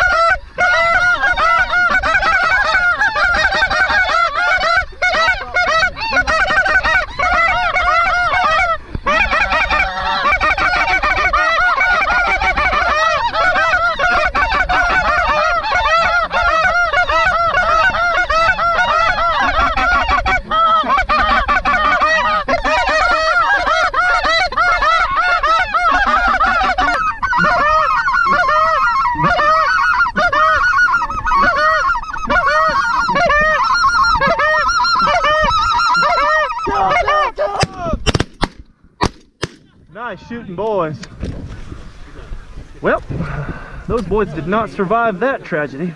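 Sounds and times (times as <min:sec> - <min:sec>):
geese honking in chorus: 0:00.0 - 0:37.7.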